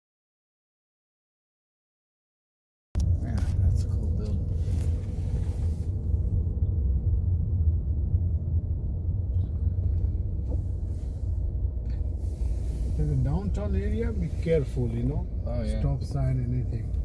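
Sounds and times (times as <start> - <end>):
car engine and road noise: 3.0 - 17.0.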